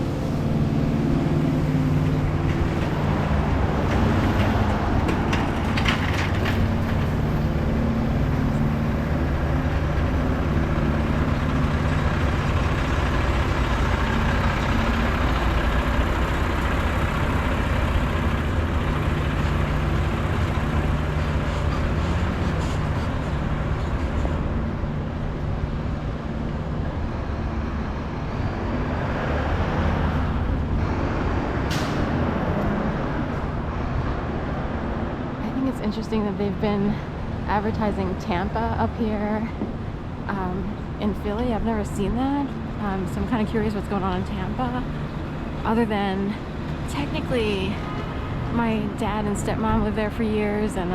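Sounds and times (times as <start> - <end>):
large vehicle engine droning: 0.0 - 50.9
road traffic noise: 0.0 - 50.9.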